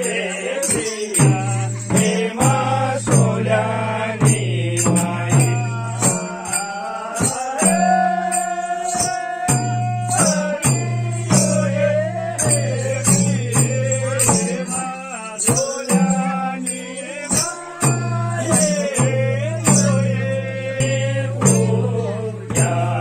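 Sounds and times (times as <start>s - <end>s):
hand drums beaten: 0.0s - 23.0s.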